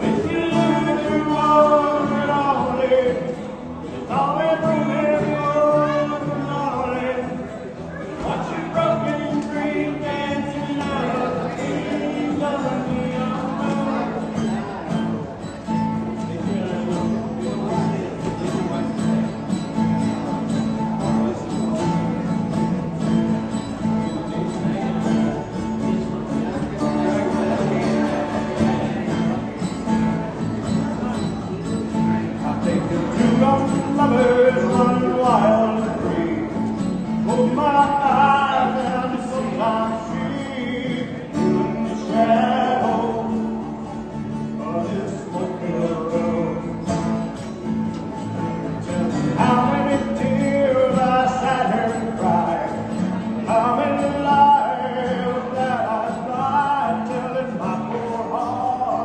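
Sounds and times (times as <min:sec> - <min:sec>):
man singing country song: 0:00.0 - 0:59.0
strummed acoustic guitar: 0:00.0 - 0:59.0.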